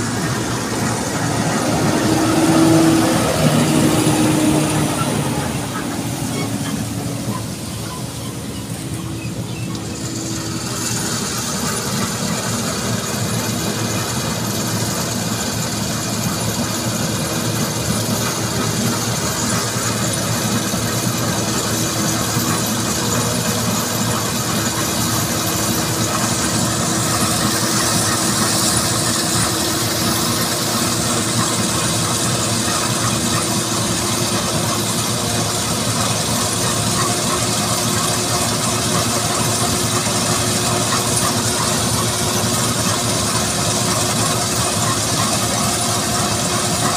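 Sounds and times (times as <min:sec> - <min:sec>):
combine harvester and tractor droning: 0:00.0 - 0:46.9.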